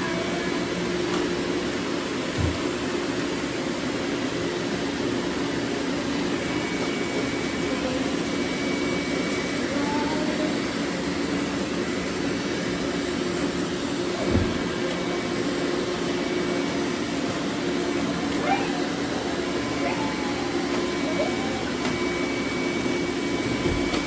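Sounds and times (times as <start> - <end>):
robot vacuums whirring: 0.9 - 24.0.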